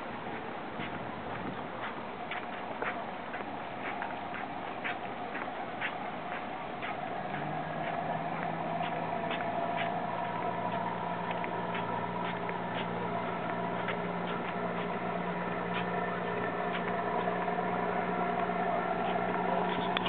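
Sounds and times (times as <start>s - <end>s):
footsteps on concrete: 0.0s - 20.0s
low engine hum: 0.0s - 20.0s.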